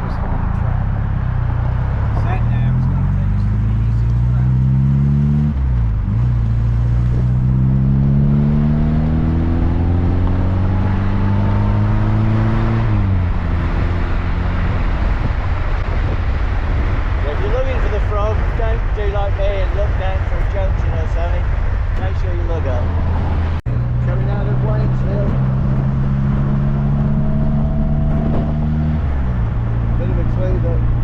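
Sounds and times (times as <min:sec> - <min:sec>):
small car engine accelerating: 0:00.0 - 0:17.1, 0:22.0 - 0:31.0.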